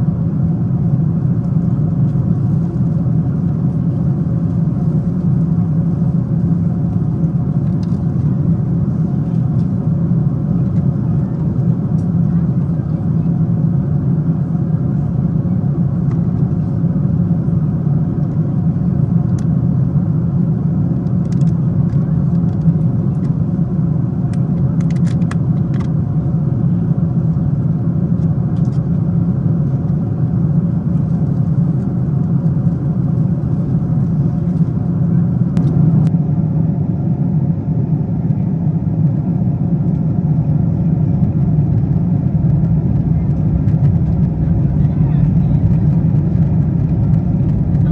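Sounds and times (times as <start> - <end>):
airplane cabin drone: 0.0 - 47.9.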